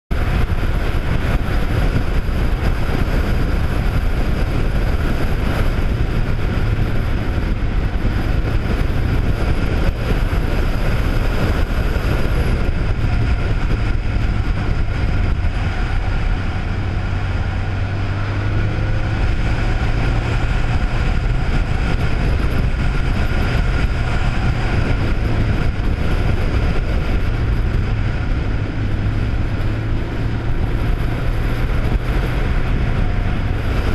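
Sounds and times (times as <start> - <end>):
wind rushing over microphone: 0.1 - 33.9.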